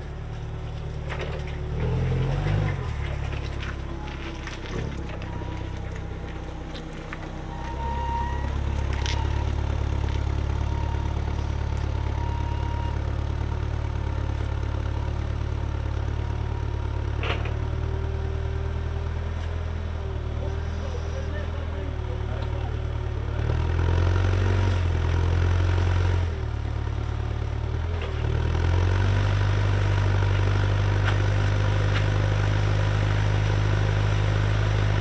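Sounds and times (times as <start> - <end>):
forklift engine running: 0.0 - 35.0.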